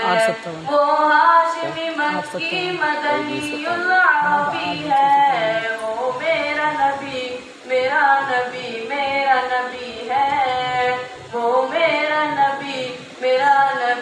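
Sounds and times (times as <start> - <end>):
person chanting unaccompanied: 0.0 - 14.0.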